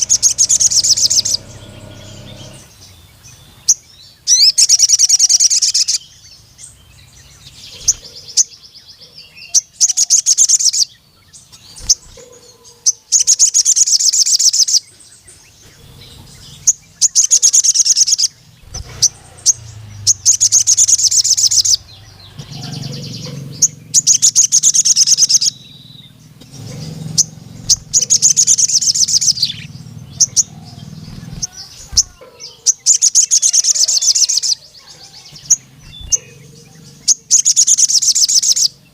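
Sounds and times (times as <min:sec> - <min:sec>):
sunbird singing rapid metallic trills: 0:00.0 - 0:38.9.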